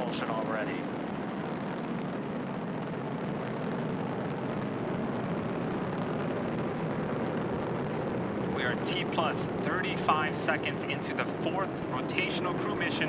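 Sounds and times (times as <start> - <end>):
distant rocket engine roar: 0.0 - 13.0.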